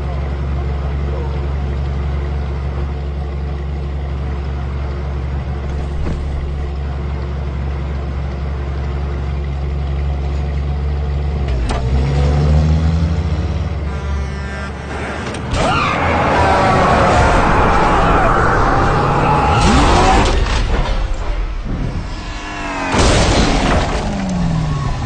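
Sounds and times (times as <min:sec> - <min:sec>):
engine running: 0:00.0 - 0:25.0.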